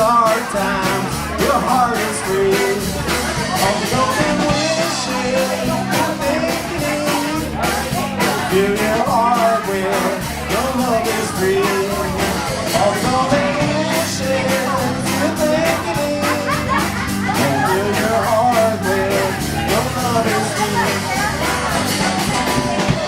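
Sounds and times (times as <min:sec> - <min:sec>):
drums steady beat: 0:00.0 - 0:23.0
guitar: 0:00.0 - 0:23.0
live rock band playing: 0:00.0 - 0:23.0.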